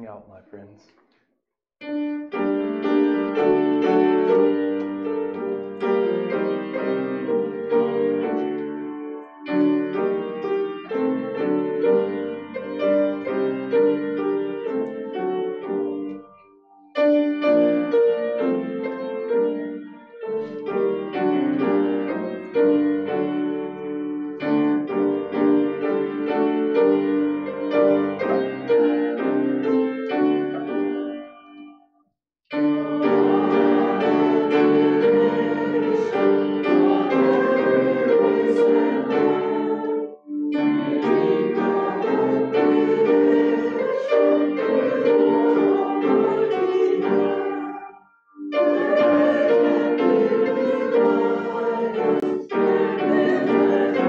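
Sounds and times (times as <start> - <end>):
piano playing a hymn: 1.8 - 31.8, 32.5 - 54.0.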